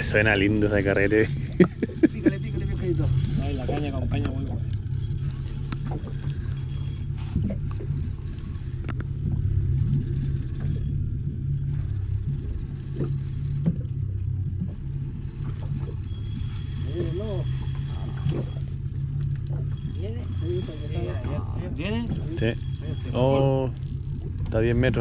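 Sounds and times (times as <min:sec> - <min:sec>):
faint clicks and squeaks: 0:00.0 - 0:24.8
outboard motor running: 0:00.0 - 0:25.0.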